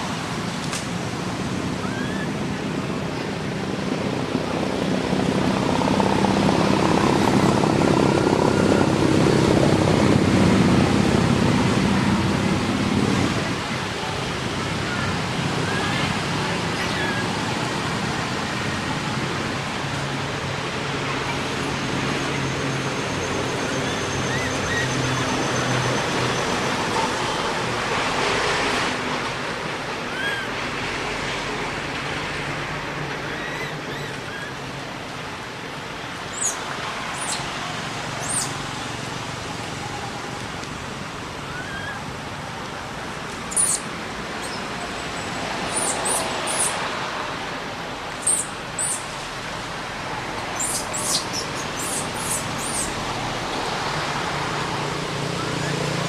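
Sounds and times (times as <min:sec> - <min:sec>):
rushing background noise: 0:00.0 - 0:56.0.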